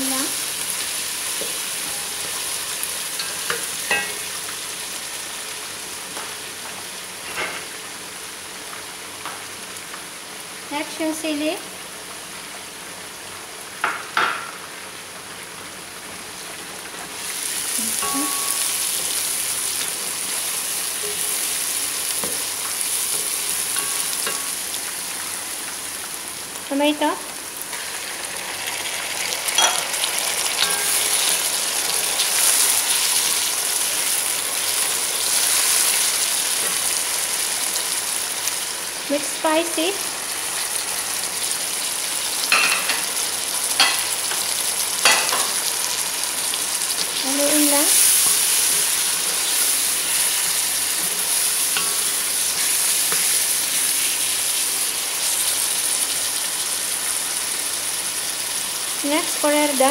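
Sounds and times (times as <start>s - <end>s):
vegetables frying in oil: 0.0s - 59.9s.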